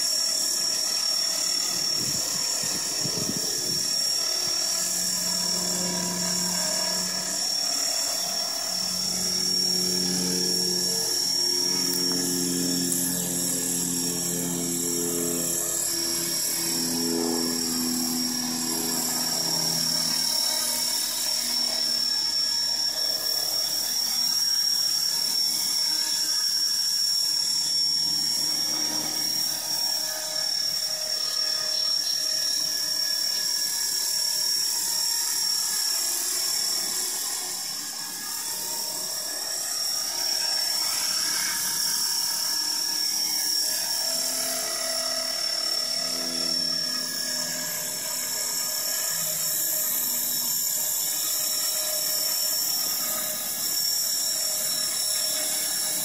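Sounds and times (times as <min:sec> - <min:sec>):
model helicopter whine: 0:00.0 - 0:56.0.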